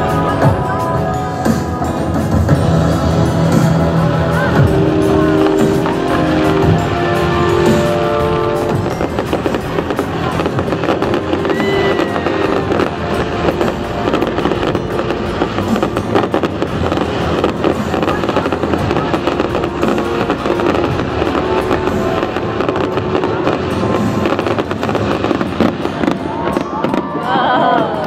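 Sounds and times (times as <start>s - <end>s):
fireworks crackling and banging: 0.0s - 28.0s
loud show music: 0.0s - 28.0s.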